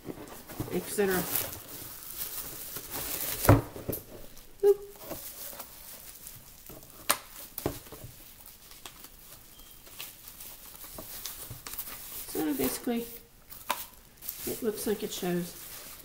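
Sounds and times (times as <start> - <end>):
bubble wrap rustling and crackling: 0.0 - 16.0.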